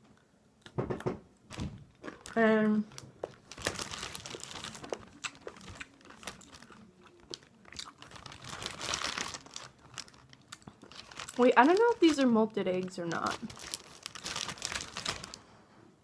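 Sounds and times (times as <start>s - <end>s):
candy bag crinkling: 1.5s - 15.5s.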